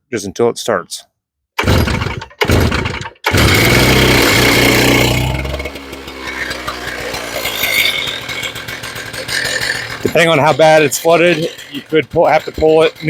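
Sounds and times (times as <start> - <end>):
cut-off saw engine running: 1.6 - 13.0.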